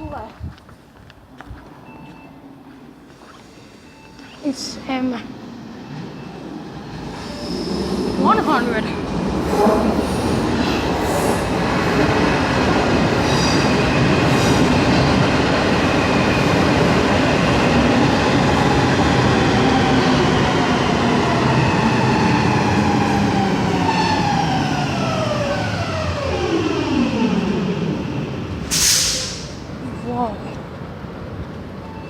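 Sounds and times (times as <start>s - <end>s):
metro train rumbling: 0.0s - 32.0s.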